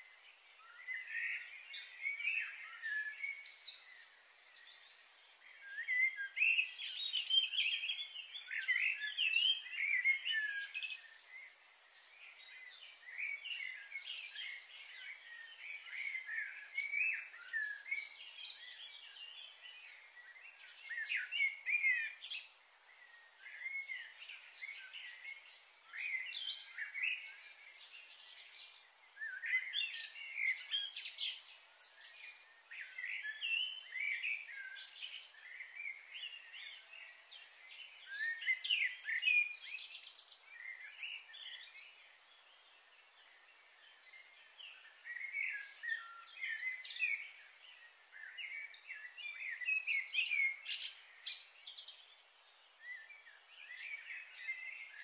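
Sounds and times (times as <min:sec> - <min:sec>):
faint high-pitched hiss: 0:00.0 - 0:55.0
small birds chirping and singing: 0:00.0 - 0:55.0.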